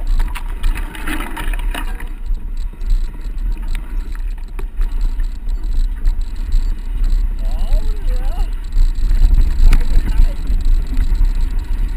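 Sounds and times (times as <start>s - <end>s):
mountain bike rattling on dirt: 0.0s - 11.9s
wind rumbling on microphone: 0.0s - 11.9s.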